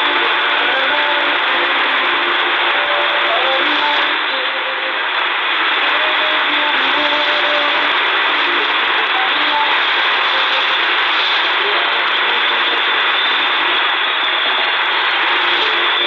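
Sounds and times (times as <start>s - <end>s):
faint radio music: 0.0s - 16.0s
radio static hiss: 0.0s - 16.0s.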